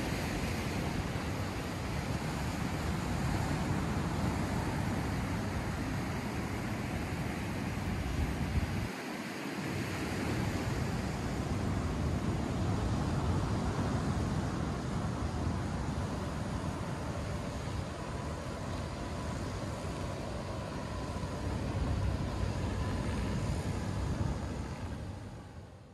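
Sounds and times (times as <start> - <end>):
ocean surf on beach: 0.0 - 25.8.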